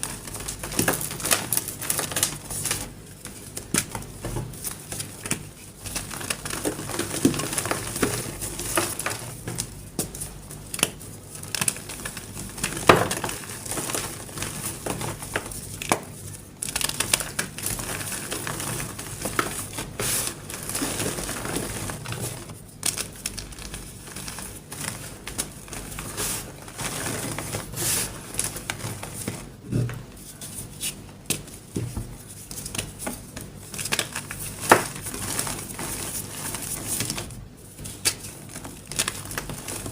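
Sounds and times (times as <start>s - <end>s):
chalk block crunching and crackling: 0.0s - 39.9s.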